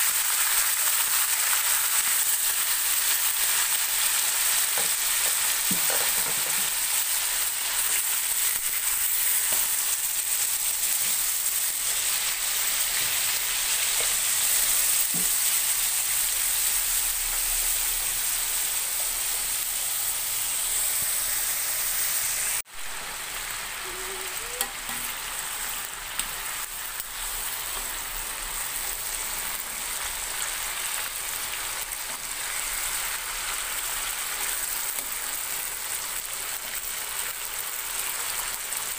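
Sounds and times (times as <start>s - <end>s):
chicken sizzling in oil: 0.0s - 38.9s.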